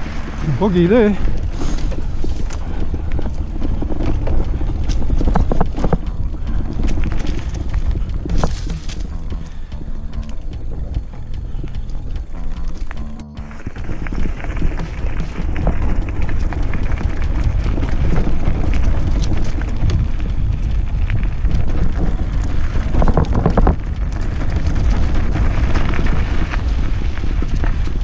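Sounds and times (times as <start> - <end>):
bike frame rattling: 0.0 - 28.0
tyres rumbling over dirt: 0.0 - 28.0
wind buffeting microphone: 0.0 - 28.0.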